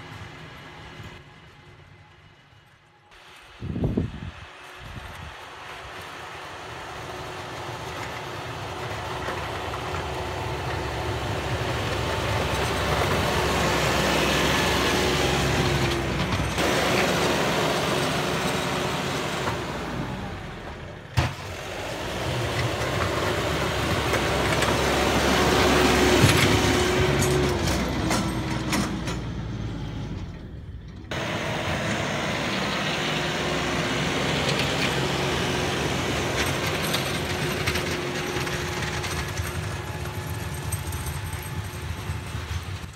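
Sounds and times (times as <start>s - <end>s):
plow blade pushing snow: 0.0s - 42.9s
tractor diesel engine running: 0.0s - 42.9s.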